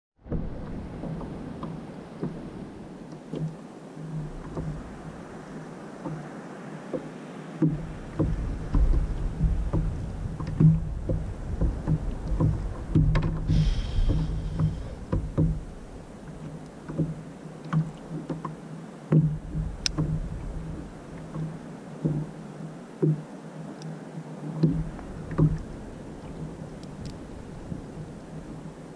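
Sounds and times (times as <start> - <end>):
water slapping kayak hull: 0.2 - 28.9
wind rumble on microphone: 0.2 - 28.9.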